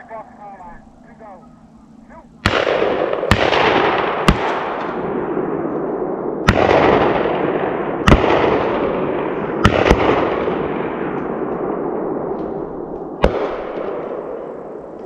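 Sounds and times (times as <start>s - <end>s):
gunshots with rolling echo: 0.4s - 15.0s.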